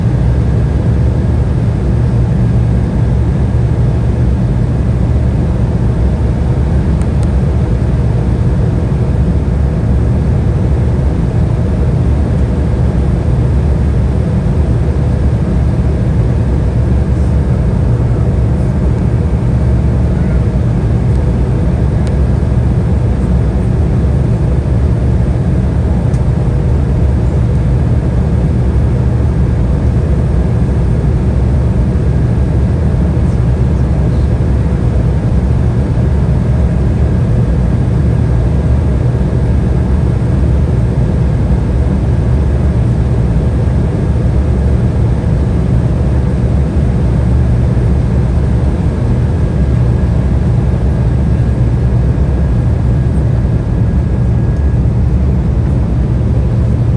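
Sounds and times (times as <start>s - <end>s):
faint steady whine: 0.0s - 56.9s
jet cabin rumble: 0.0s - 56.9s.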